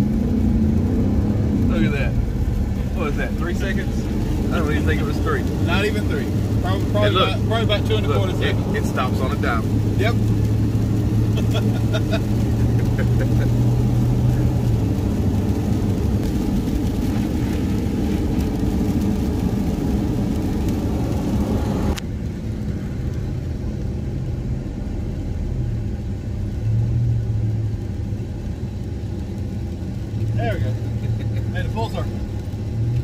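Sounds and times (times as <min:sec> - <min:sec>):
road and tyre drone: 0:00.0 - 0:33.0.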